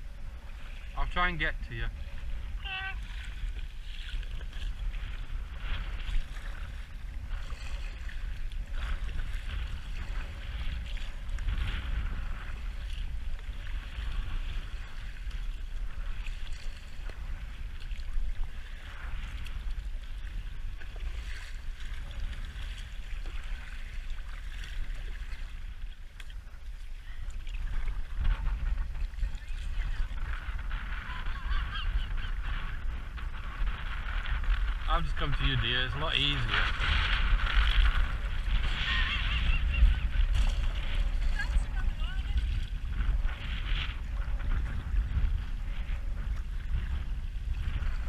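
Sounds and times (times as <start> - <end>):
paddle splashes: 0.0 - 48.0
water slapping against kayak: 0.0 - 48.0
wind buffeting microphone: 0.0 - 48.0.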